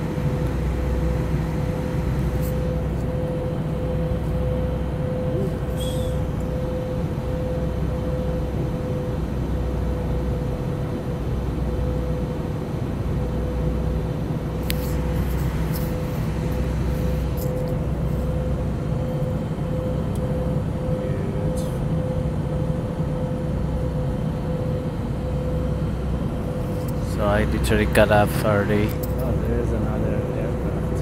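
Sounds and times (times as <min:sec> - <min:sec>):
jet airliner cabin drone: 0:00.0 - 0:31.0.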